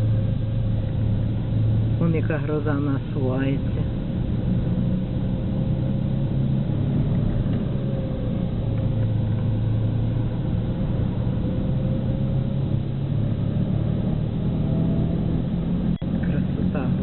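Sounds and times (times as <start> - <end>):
car engine and road noise: 0.0 - 17.0
faint steady whine: 0.0 - 17.0.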